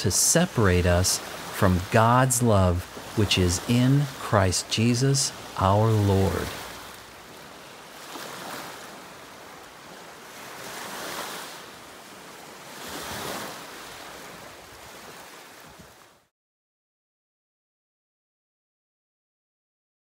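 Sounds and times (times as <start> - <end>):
small waves washing onto sand: 0.0 - 16.3.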